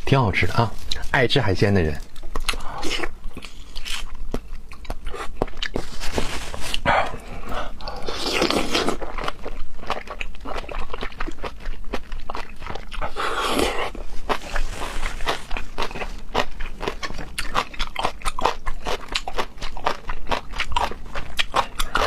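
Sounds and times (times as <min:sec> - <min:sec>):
wet chewing and smacking: 0:02.0 - 0:06.0, 0:06.7 - 0:22.0.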